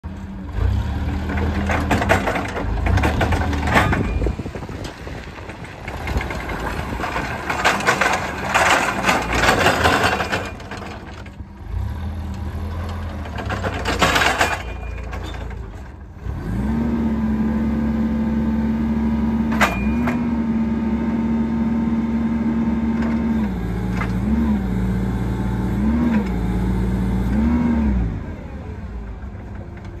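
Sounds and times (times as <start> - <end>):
forklift engine running: 0.0 - 30.0.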